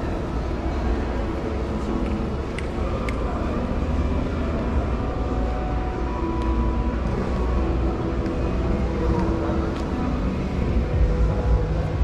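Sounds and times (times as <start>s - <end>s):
exhibition hall rumble and hum: 0.0s - 12.0s.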